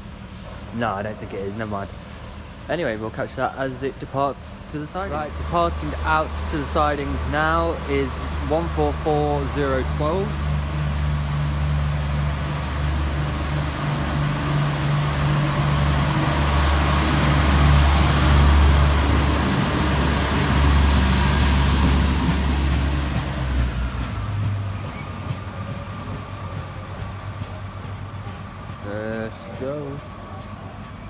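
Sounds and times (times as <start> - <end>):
train wheels on rails: 0.0 - 31.0
diesel engine drone: 3.0 - 30.8.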